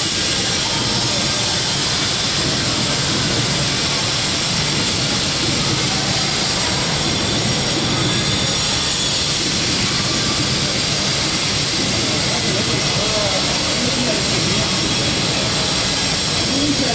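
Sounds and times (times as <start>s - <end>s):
high-speed train passing: 0.0s - 16.9s.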